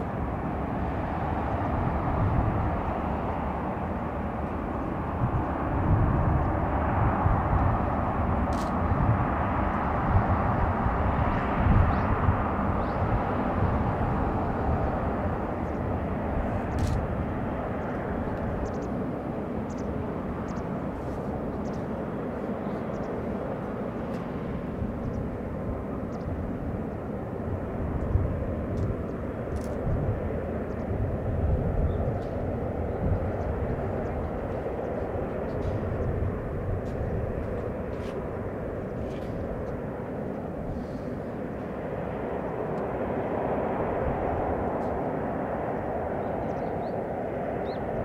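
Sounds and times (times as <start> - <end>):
jet engines rumbling: 0.0 - 48.0.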